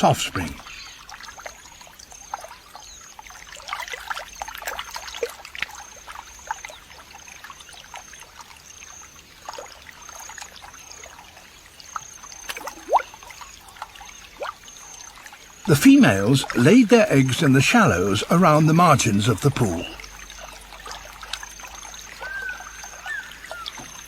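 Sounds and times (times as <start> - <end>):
shallow water trickling and splashing: 0.0 - 24.0.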